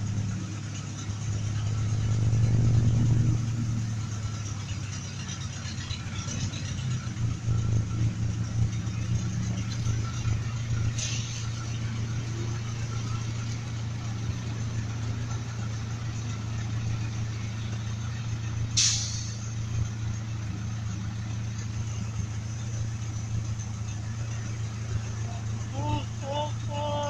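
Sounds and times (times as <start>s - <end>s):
truck engine idling: 0.0s - 27.0s.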